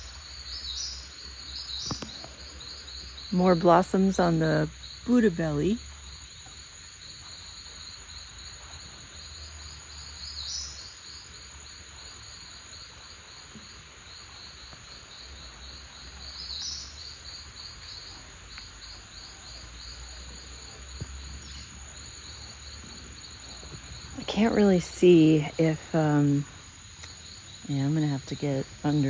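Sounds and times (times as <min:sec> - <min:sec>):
insects chirping: 0:00.0 - 0:29.0
loud insect call: 0:00.0 - 0:29.0.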